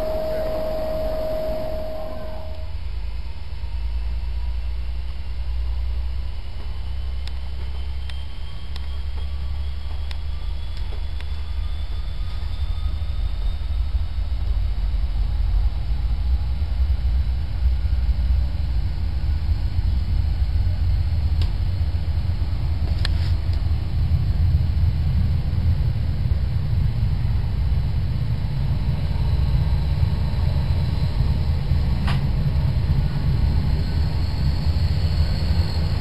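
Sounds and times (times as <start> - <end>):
train carriage rumble: 0.0 - 36.0.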